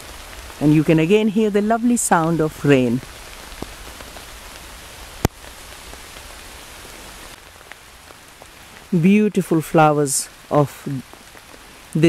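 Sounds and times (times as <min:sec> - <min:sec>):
rain on foliage: 0:00.0 - 0:12.0.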